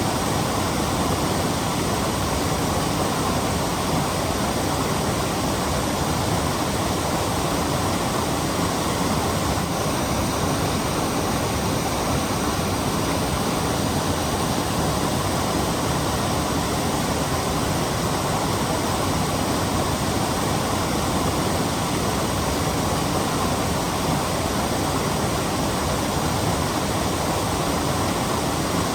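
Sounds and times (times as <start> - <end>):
waterfall rushing over rock: 0.0 - 28.9.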